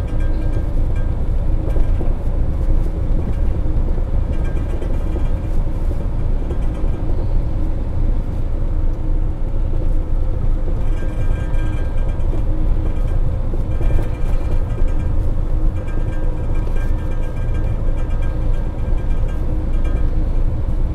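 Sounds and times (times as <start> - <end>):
road noise: 0.0 - 20.9
truck diesel engine drone: 0.0 - 20.9.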